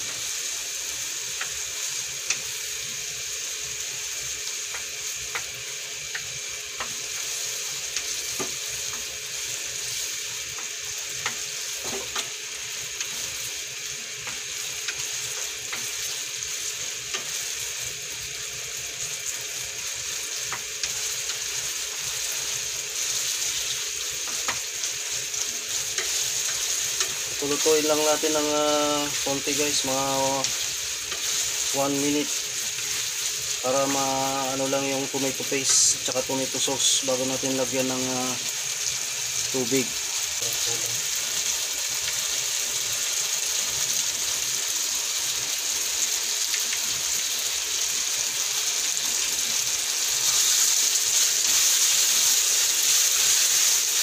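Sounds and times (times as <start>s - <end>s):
meat sizzling in a wok: 0.0s - 54.0s.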